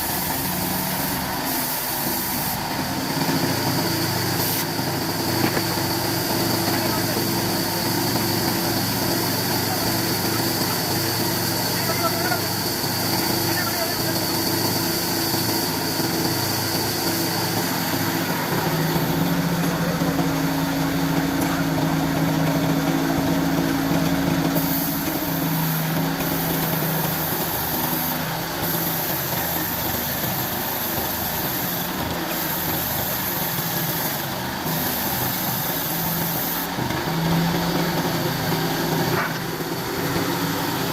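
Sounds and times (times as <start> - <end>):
wood-cutting machine motor humming: 0.0 - 40.9.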